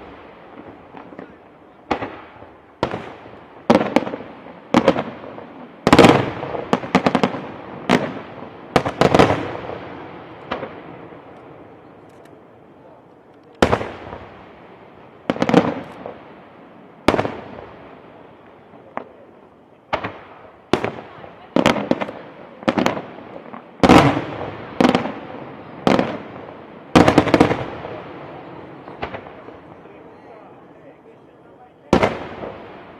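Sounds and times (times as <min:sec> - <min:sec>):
fireworks bangs with echo: 0:00.0 - 0:32.9.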